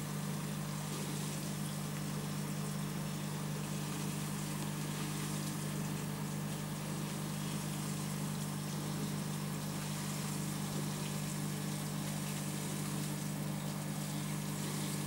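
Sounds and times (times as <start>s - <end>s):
aquarium pump humming: 0.0s - 15.0s
water bubbling in tank filter: 0.0s - 15.0s.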